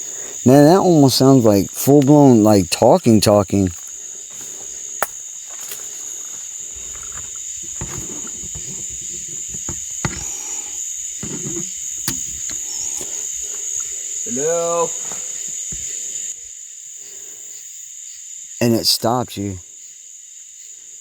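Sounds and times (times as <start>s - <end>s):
night insects chorus: 0.0s - 21.0s.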